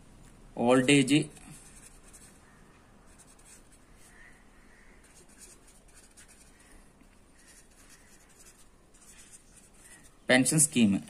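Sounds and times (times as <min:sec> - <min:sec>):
marker pen scratching on paper: 0:01.3 - 0:10.3.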